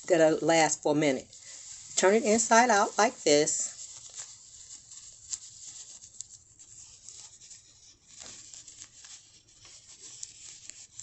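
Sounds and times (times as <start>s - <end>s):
glove fabric rustling: 0.3s - 11.0s.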